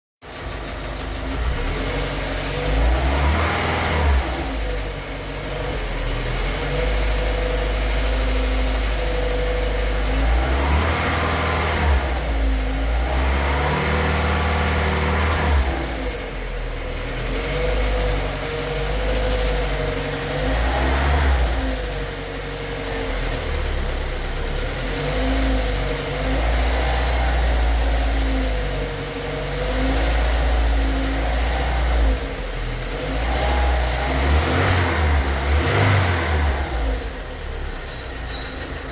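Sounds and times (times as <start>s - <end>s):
car engine idling and revving: 0.2s - 38.9s.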